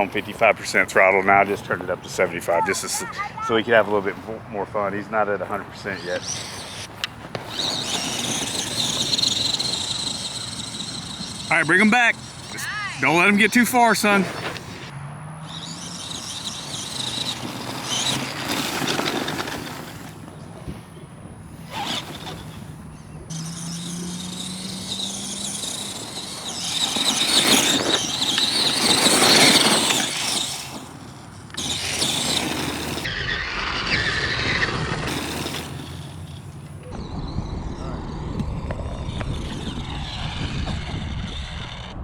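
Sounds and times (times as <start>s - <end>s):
tyre and drivetrain noise: 0.0s - 42.0s
electric motor whining: 5.8s - 42.0s.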